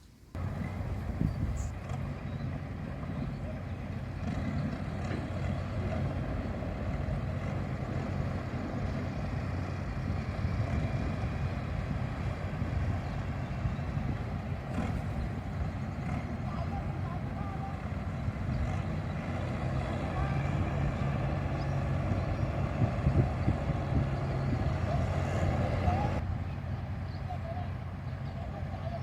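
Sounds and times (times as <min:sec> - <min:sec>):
diesel railcar engine droning: 0:00.0 - 0:29.0.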